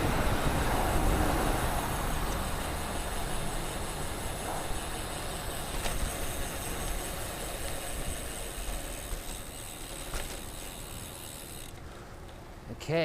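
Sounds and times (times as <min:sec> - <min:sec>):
bicycle tyres rumbling on road: 0:00.0 - 0:12.6.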